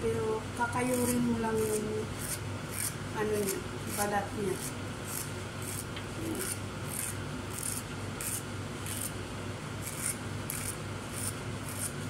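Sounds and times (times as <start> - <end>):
knife scraping vegetable skin: 0.8 - 9.2, 9.8 - 12.0.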